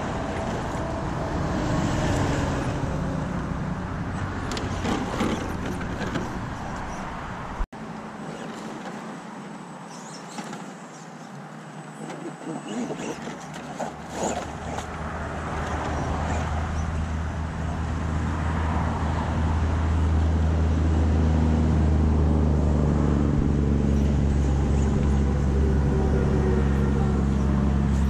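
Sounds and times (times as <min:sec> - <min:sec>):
vehicle engine hum: 0:00.0 - 0:28.0.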